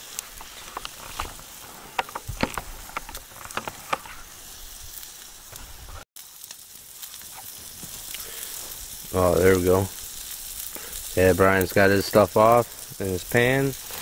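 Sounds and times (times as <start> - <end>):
steaks sizzling on a grill: 0.0 - 14.0.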